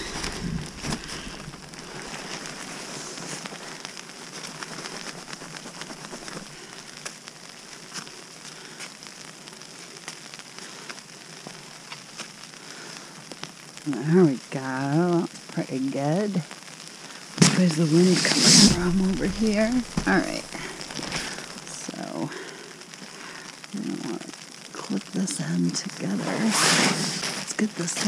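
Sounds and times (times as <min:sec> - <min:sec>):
freezing rain hissing and ticking: 0:00.0 - 0:28.0.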